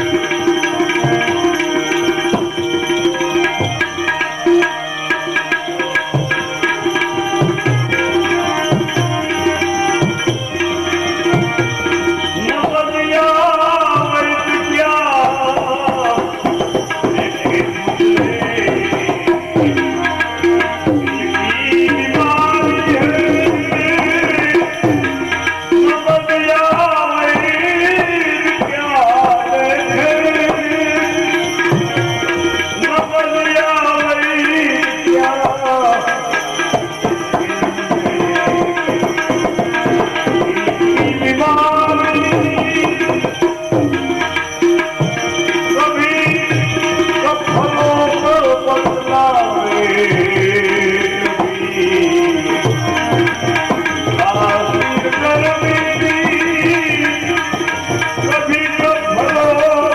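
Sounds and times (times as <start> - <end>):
tabla rhythm: 0.0 - 59.9.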